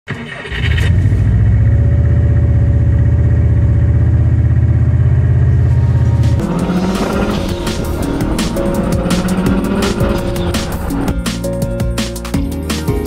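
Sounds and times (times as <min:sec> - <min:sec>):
car engine running: 0:00.5 - 0:12.4.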